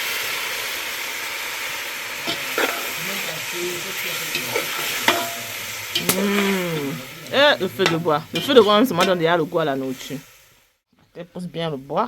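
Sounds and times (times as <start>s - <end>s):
meat sizzling in hot oil: 0.0s - 10.8s.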